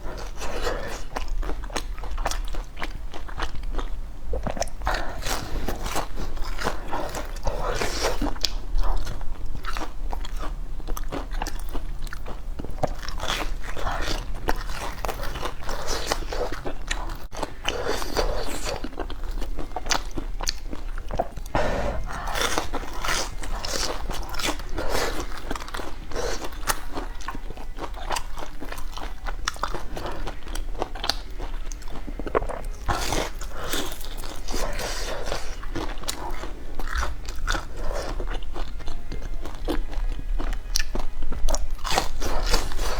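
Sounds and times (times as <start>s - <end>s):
chewing crunchy food: 0.0s - 42.9s.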